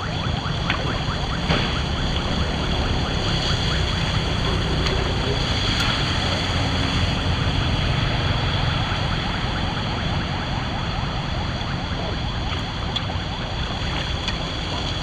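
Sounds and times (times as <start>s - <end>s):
floodwater rushing down a drain: 0.0s - 15.0s.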